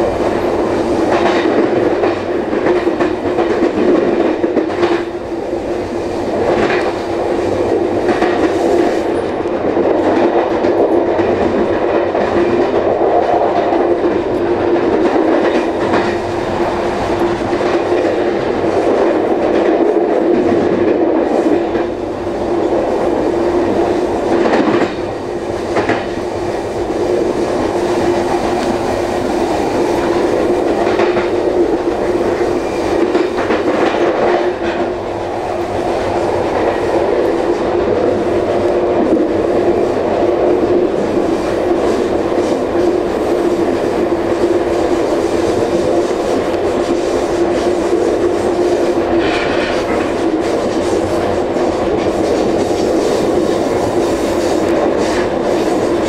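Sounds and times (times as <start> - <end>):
steady train hum: 0.0 - 56.0
train wheels rumbling on rail: 0.0 - 56.0.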